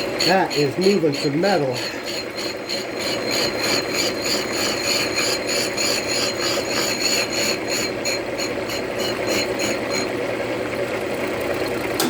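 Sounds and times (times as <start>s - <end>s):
milling machine cutting metal: 0.0s - 10.2s.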